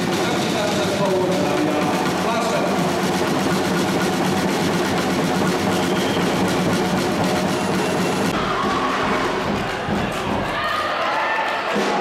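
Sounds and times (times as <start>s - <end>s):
loud crowd noise: 0.0s - 12.0s.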